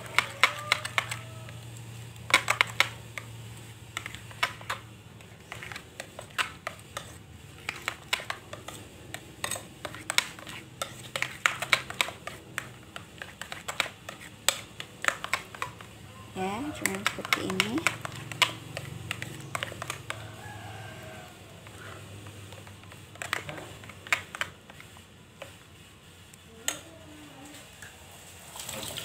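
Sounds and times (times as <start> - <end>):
spoon stirring batter in glass bowl: 0.0 - 25.7.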